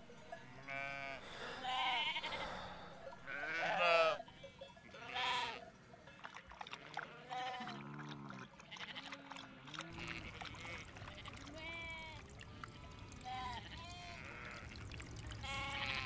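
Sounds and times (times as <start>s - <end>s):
goats bleating: 0.2s - 4.3s, 4.9s - 5.7s, 6.8s - 16.0s.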